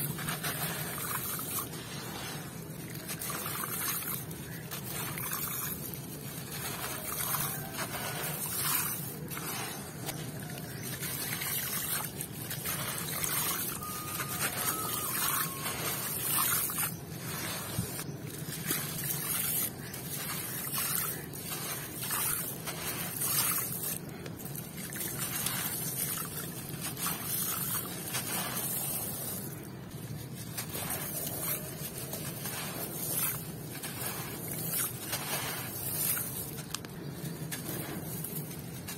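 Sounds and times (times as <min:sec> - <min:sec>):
grit pattering onto gravel: 0:00.0 - 0:38.9.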